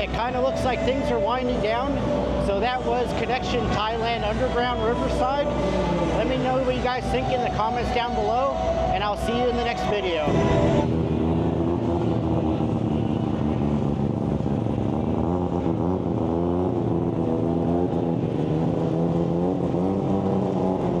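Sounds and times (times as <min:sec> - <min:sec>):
rotary car engine revving: 0:00.0 - 0:21.0.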